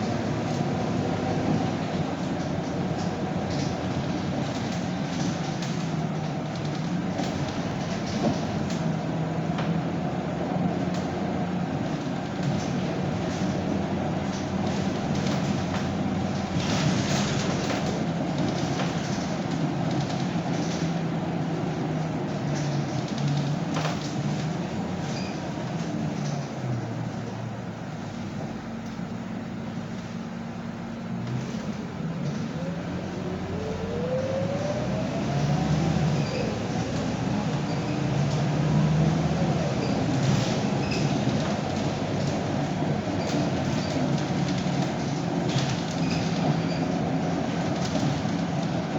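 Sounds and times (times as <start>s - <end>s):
bus body rattles: 0.0s - 33.6s, 34.4s - 48.9s
diesel engine hum: 0.0s - 48.9s
road noise: 0.0s - 48.9s.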